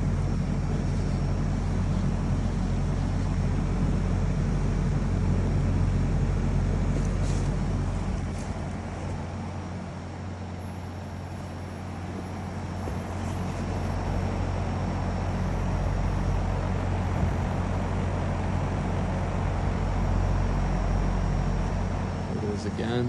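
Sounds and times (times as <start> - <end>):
heat pump fan humming: 0.0 - 23.0.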